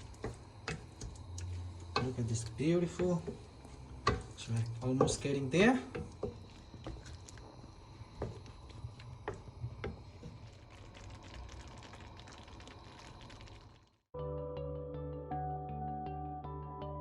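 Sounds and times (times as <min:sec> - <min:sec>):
sauce hissing and popping: 0:00.0 - 0:14.1.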